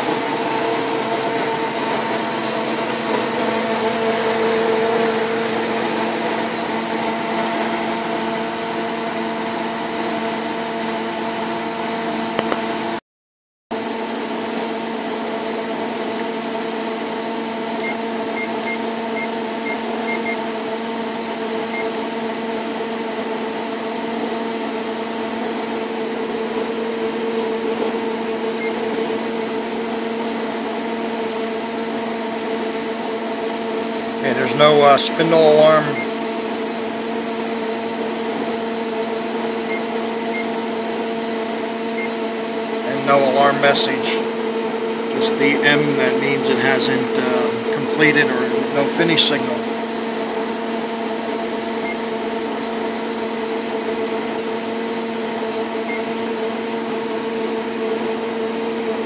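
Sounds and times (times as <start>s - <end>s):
machine hum with cooling fans: 0.0s - 13.0s, 13.8s - 59.0s.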